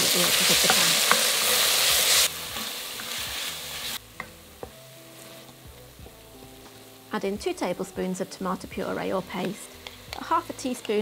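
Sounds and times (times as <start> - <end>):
faint background music: 0.0 - 11.0
paste sizzling in hot oil: 0.0 - 11.0.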